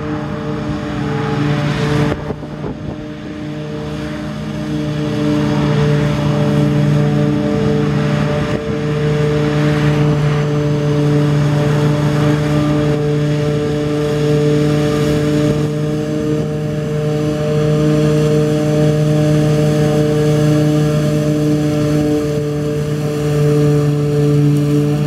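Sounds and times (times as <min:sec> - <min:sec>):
forage harvester engine droning: 0:00.0 - 0:25.0.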